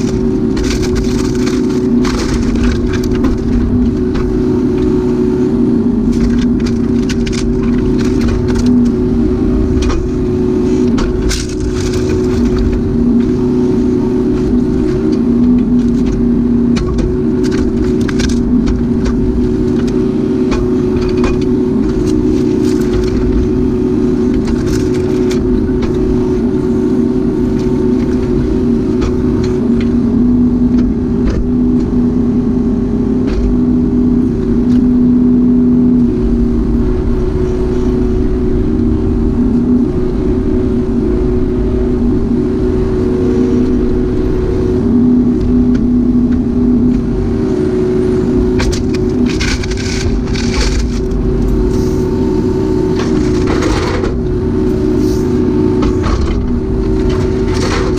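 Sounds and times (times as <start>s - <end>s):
mini excavator running: 0.0s - 57.9s.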